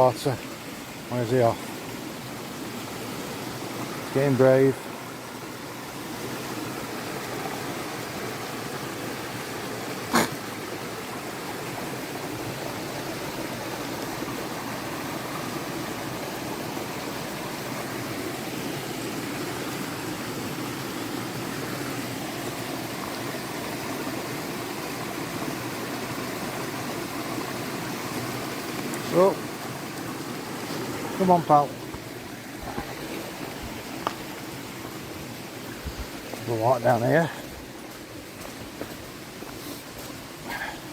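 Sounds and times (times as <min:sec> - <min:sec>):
stream rushing over small falls: 0:00.0 - 0:40.9.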